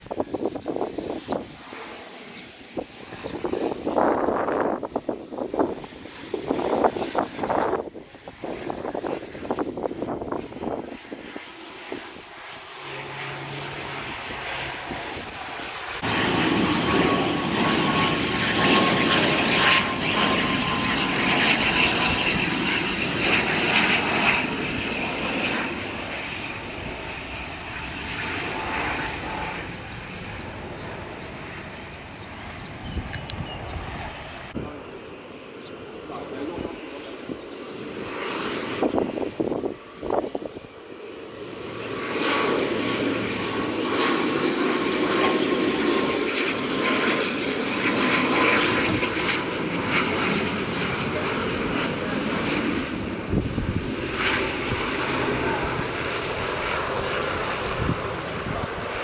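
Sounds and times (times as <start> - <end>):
wind gusts on microphone: 0.0 - 40.8, 41.6 - 59.0
turboprop airliner engines: 0.0 - 59.0.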